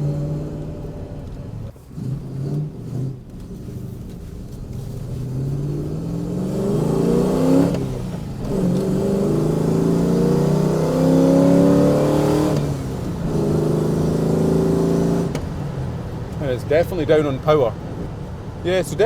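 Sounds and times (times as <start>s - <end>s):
rough-running engine accelerating: 0.0s - 19.0s.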